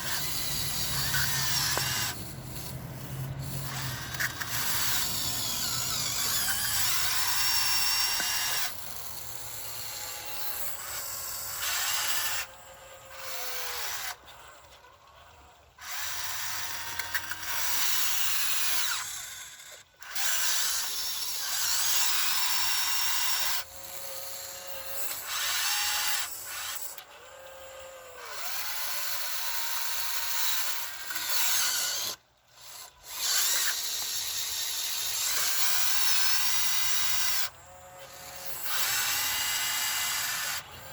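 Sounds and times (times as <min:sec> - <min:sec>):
electric gear motors whining: 0:00.0 - 0:40.9.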